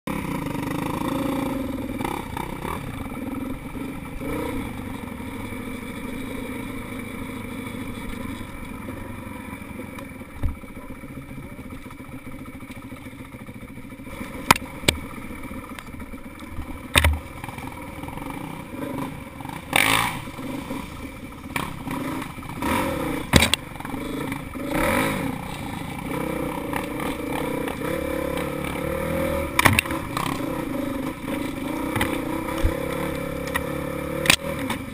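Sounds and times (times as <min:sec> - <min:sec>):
dirt bike engine running: 0:00.1 - 0:34.9
bike knocking and rattling: 0:05.0 - 0:34.9.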